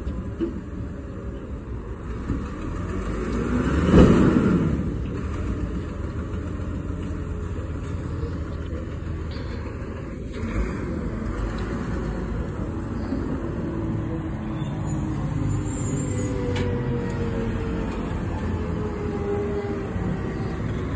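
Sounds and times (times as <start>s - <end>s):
garbage truck engine rumbling: 0.0s - 20.9s.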